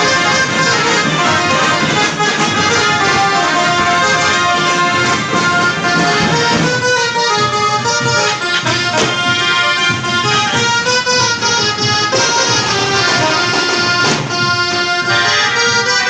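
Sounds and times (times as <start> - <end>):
drum beats: 0.0 - 16.0
procession band music: 0.0 - 16.0.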